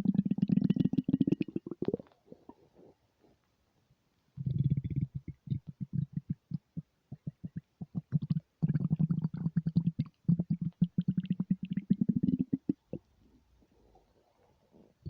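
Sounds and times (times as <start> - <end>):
stomach rumbling and gurgling: 0.0 - 3.4, 4.4 - 15.0.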